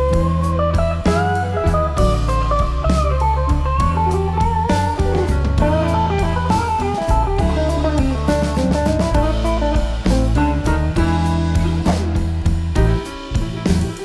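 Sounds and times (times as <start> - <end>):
bass: 0.0 - 14.0
drum beat: 0.0 - 14.0
guitar melody: 0.0 - 14.0.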